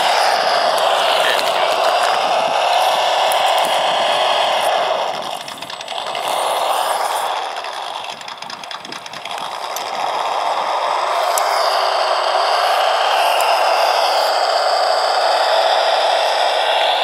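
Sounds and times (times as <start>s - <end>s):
simulated truck engine revving: 0.0s - 17.0s.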